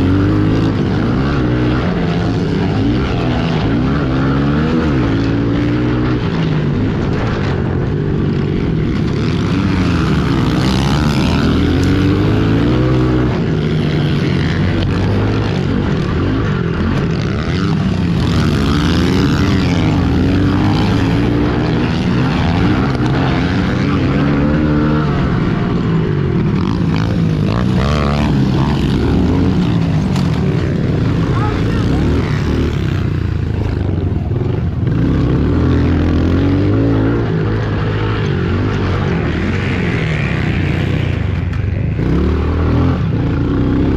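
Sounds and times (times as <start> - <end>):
pit bike engines revving: 0.0 - 43.9.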